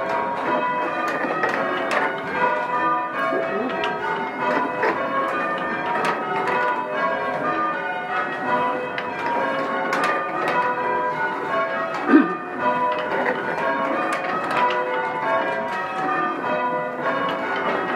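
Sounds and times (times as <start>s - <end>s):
church bells ringing: 0.0s - 17.9s.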